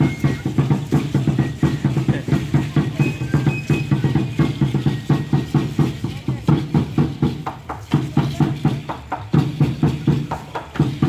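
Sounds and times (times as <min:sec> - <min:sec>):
drum fast steady beat: 0:00.0 - 0:11.0
seed-pod ankle rattles shaking: 0:00.0 - 0:11.0.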